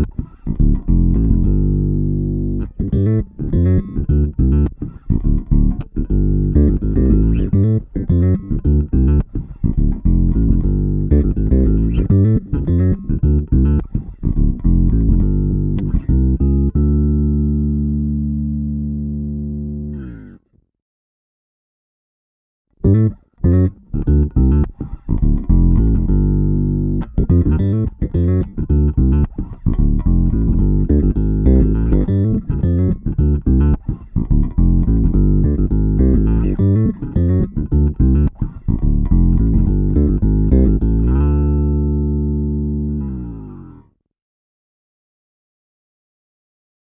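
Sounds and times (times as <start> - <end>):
electric bass riff with octave effect: 0.0 - 20.6, 22.8 - 44.0.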